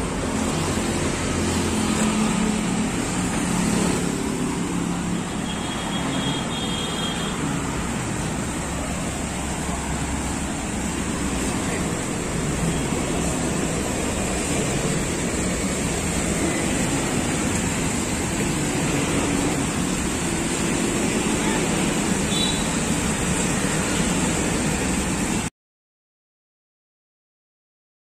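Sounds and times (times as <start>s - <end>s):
fountain jets splashing: 0.0s - 25.5s
road traffic rushing: 0.0s - 25.5s.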